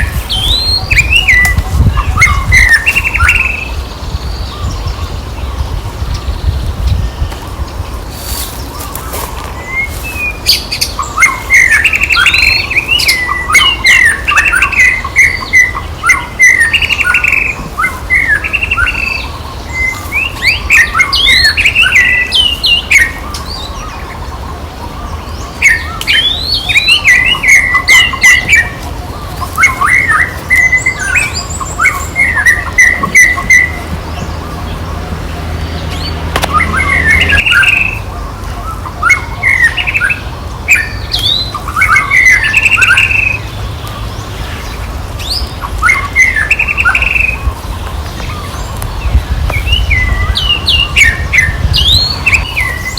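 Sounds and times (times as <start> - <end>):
high-pitched chirping animal calls: 8.2 - 52.9.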